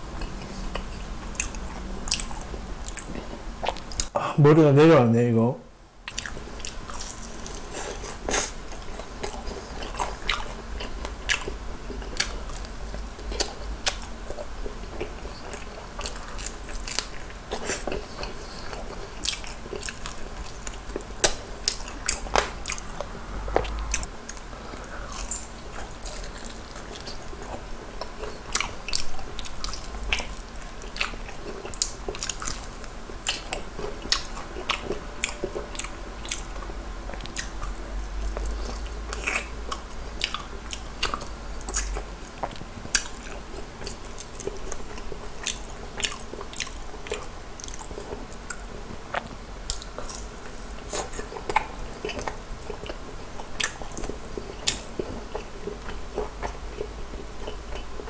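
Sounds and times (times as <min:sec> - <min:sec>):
biting and chewing crunchy food: 0:00.2 - 0:04.1, 0:06.1 - 0:58.0.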